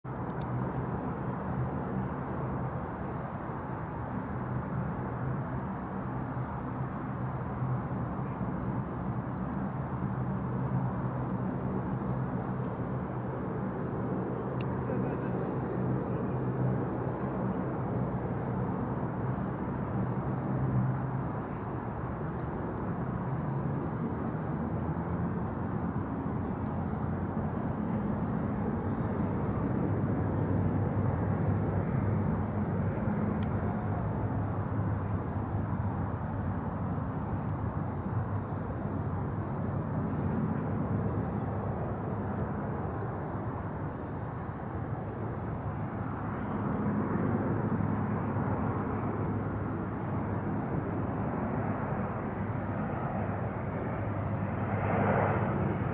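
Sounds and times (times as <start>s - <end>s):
turboprop engines droning: 0.1s - 55.9s.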